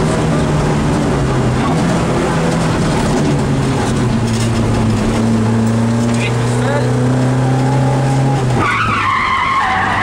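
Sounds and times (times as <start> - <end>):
rally car engine running hard: 0.0 - 8.6
road and tyre noise: 0.0 - 10.0.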